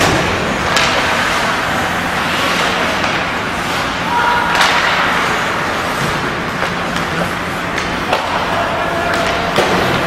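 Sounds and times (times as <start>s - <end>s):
arena and ice noise: 0.0s - 10.0s.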